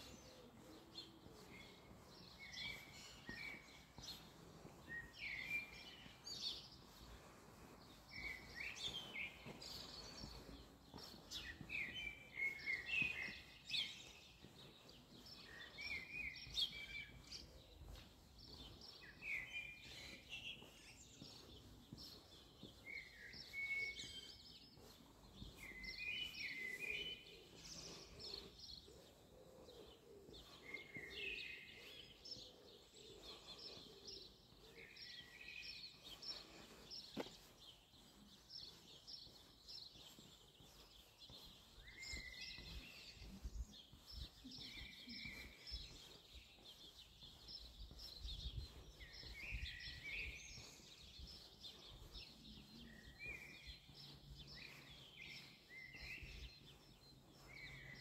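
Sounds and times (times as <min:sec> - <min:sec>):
small songbirds singing: 0:00.0 - 0:58.0.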